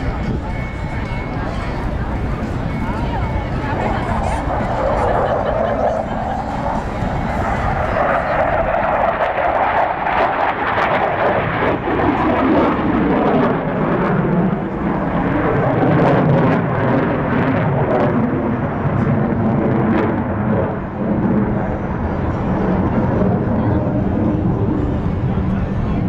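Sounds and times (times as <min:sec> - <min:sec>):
jet engine rushing: 0:00.0 - 0:21.8.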